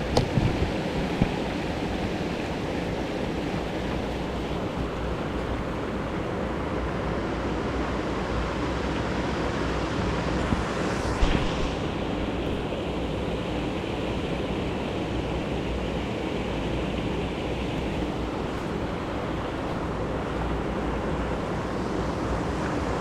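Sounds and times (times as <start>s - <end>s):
wind blowing over microphone: 0.0s - 6.8s, 9.6s - 16.2s, 17.0s - 23.0s.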